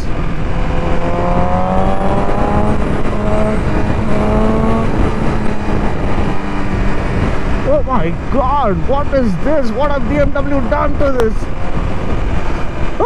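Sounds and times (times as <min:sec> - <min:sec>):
motorcycle engine accelerating: 0:00.0 - 0:13.0
wind rush on microphone: 0:00.0 - 0:13.0.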